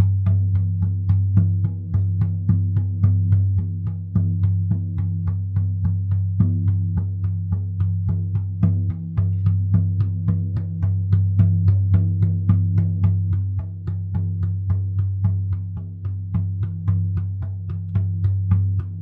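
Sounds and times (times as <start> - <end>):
drum beaten in steady rhythm: 0.0 - 19.0.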